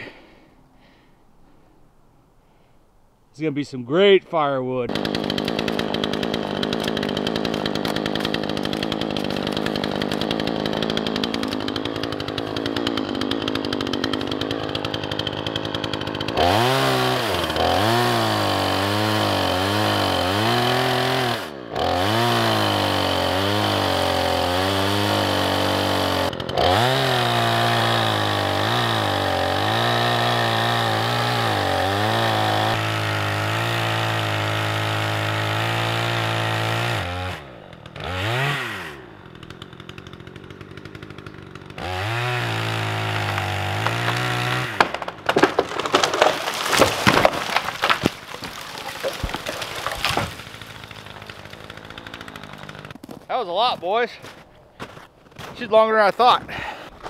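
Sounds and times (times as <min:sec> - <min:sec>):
chainsaw cutting wood: 0:04.9 - 0:55.6.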